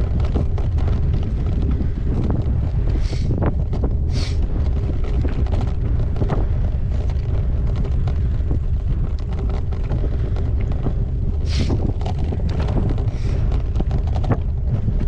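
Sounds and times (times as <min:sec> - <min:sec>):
bike rattles and clicks on gravel: 0:00.0 - 0:15.0
wind buffeting microphone: 0:00.0 - 0:15.0.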